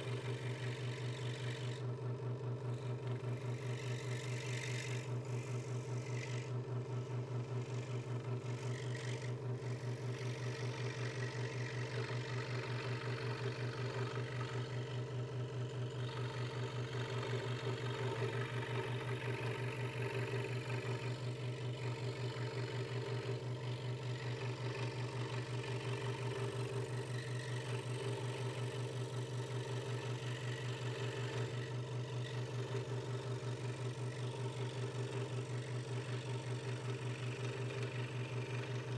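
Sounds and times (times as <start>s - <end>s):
scroll saw cutting wood: 0.0s - 2.0s, 2.6s - 38.9s.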